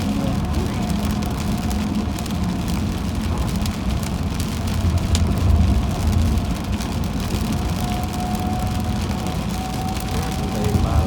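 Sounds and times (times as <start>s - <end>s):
low rumble of tyres and engine: 0.0s - 11.0s
raindrops ticking on car: 0.0s - 11.0s.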